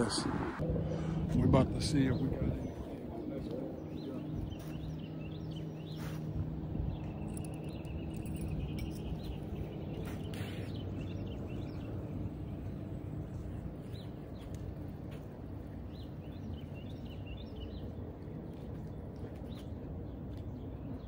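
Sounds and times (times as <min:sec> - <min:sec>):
low outdoor rumble: 0:00.0 - 0:21.0
small birds chirping: 0:00.9 - 0:21.0.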